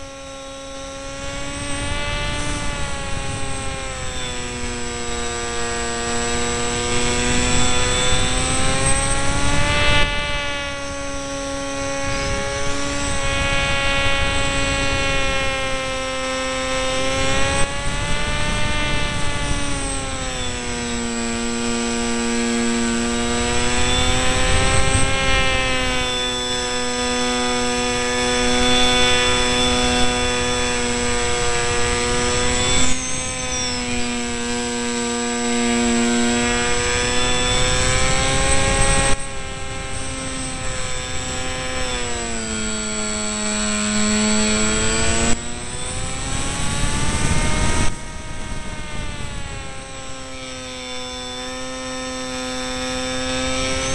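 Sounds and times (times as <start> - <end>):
electric motor and propeller whining: 0.0 - 53.9.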